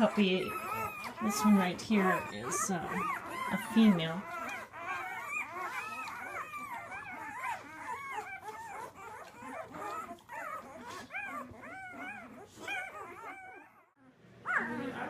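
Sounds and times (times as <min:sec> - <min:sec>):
puppies whimpering and squealing: 0:00.0 - 0:15.0.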